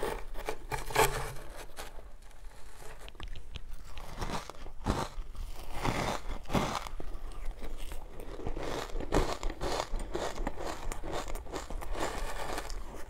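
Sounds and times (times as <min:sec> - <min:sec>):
ice being chewed crunching: 0:01.9 - 0:13.0.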